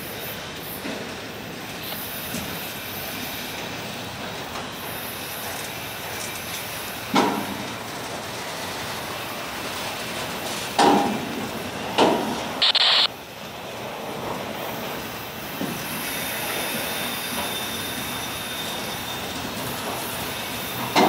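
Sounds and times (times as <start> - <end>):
freight cars rumbling on rails: 0.0 - 21.0.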